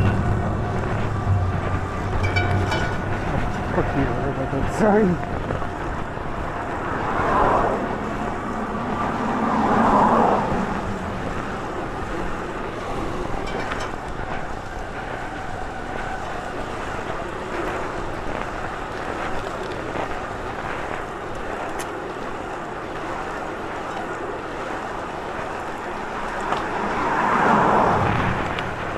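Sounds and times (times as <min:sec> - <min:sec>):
wind noise on microphone: 0:00.0 - 0:28.9.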